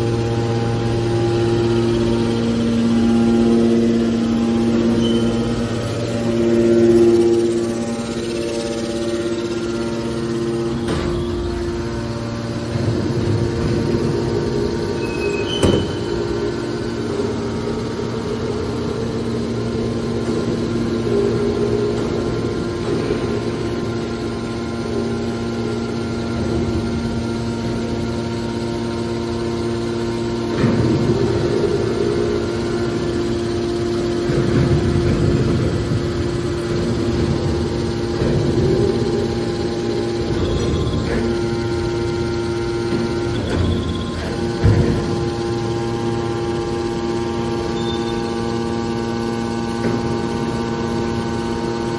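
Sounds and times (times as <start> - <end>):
hydraulic pump motor humming: 0.0 - 51.9.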